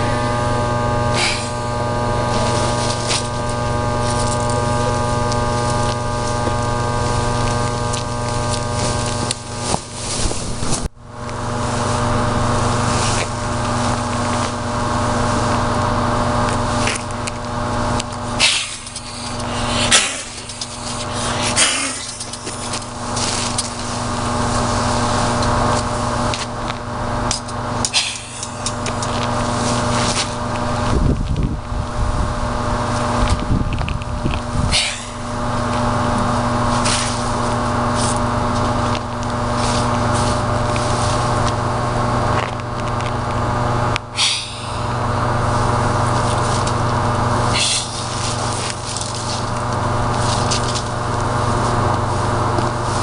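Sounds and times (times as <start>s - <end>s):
low rumbling: 0.0s - 53.0s
transformer electrical hum: 0.0s - 53.0s.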